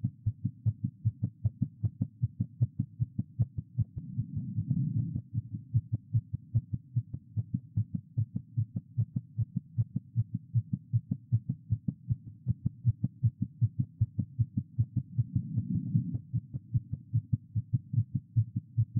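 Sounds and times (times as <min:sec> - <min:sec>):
fast heartbeat thuds: 0:00.0 - 0:18.9.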